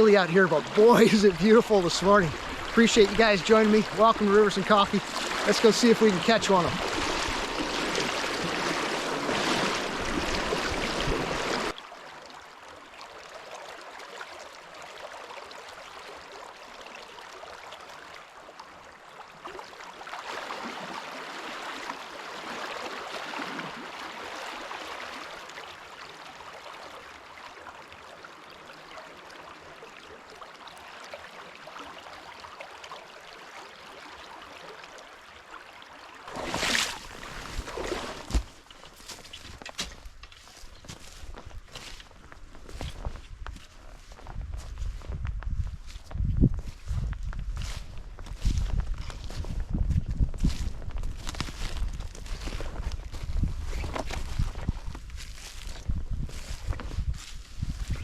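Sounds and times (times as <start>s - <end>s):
stream water running: 0.0s - 44.2s, 50.4s - 58.0s.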